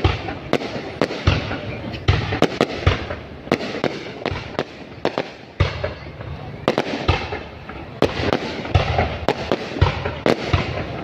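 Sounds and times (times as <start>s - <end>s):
fireworks bangs: 0.0s - 11.0s
fireworks crackling rumble: 0.0s - 11.0s.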